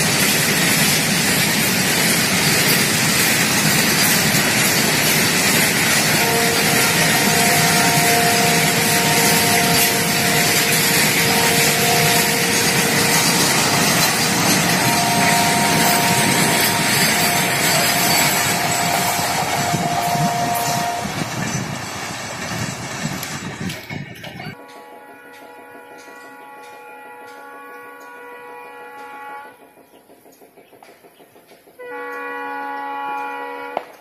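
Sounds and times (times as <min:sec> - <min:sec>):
train wheels rolling on rail: 0:00.0 - 0:34.0.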